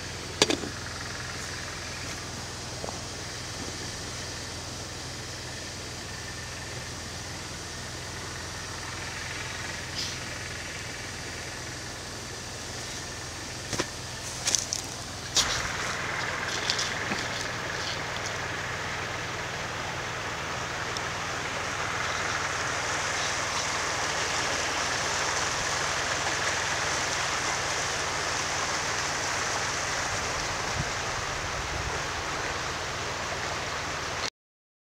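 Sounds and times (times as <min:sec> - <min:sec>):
creek running over stones: 0:00.0 - 0:34.3.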